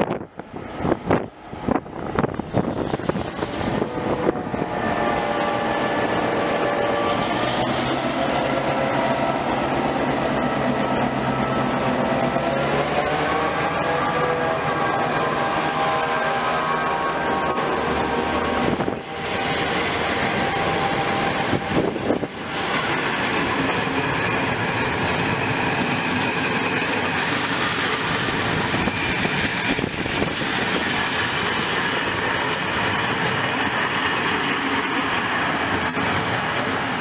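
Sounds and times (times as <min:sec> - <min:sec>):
train wheels clattering on rails: 0:02.2 - 0:37.0.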